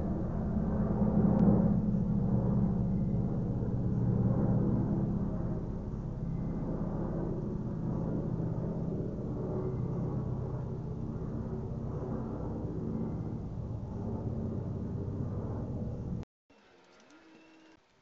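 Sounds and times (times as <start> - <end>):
helicopter rotor drone: 0.0 - 16.2.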